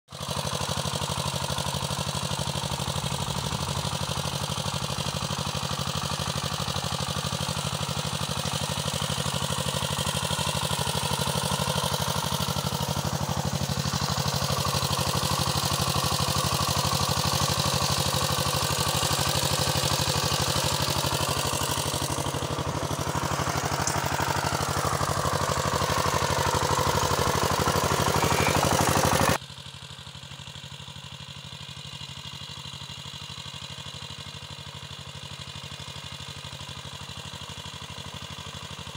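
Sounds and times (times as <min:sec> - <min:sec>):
walking tractor engine running: 0:00.1 - 0:38.9.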